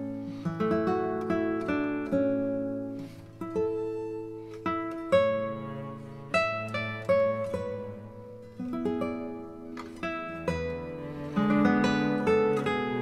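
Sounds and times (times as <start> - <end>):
plucked acoustic string instrument: 0.0 - 13.0.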